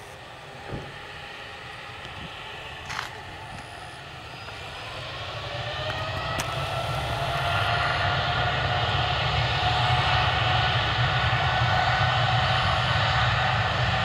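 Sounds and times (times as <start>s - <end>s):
jet engines at takeoff power: 0.0s - 14.0s
rising engine whine: 0.0s - 14.0s.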